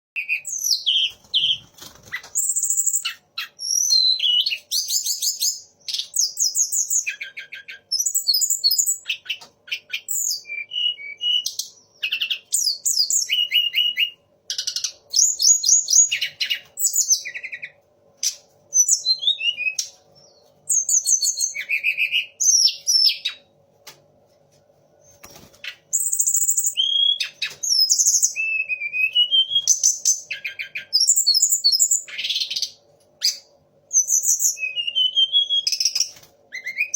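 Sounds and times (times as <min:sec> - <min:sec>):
songbird singing varied phrases: 0:00.2 - 0:01.6, 0:02.4 - 0:23.5, 0:25.7 - 0:36.9
faint steady hum: 0:00.2 - 0:36.9.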